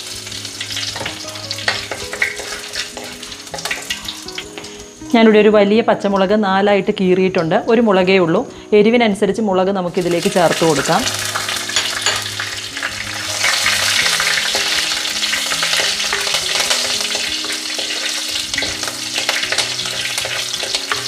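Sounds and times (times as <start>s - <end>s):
chillies sizzling in hot oil: 0.0s - 8.2s, 9.7s - 21.0s.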